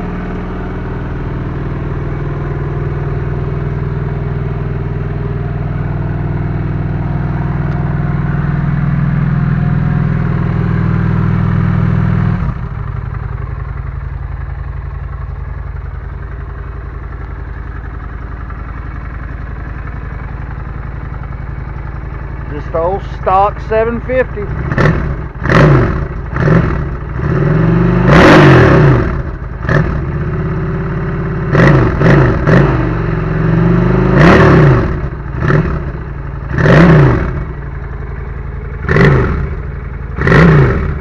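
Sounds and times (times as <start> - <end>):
motorcycle engine revving and idling: 0.0 - 41.0.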